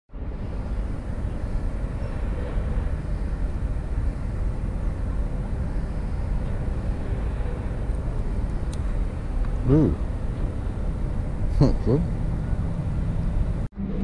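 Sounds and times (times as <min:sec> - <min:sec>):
low rumbling outdoor background noise: 0:00.1 - 0:14.0.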